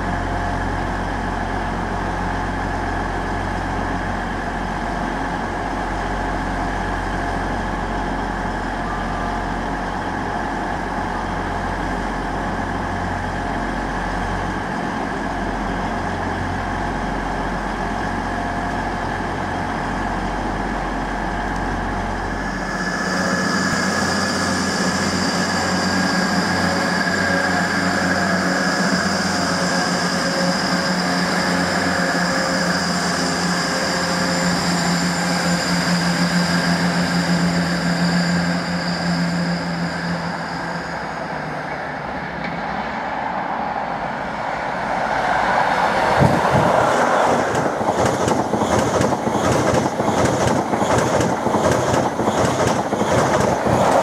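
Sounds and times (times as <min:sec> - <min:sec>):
train running with high whine: 0:00.0 - 0:54.0.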